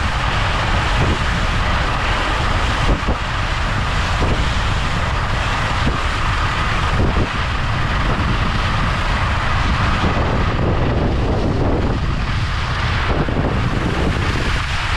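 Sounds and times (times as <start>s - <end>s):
skis hissing over snow: 0.0s - 14.9s
wind rushing over microphone: 0.0s - 14.9s.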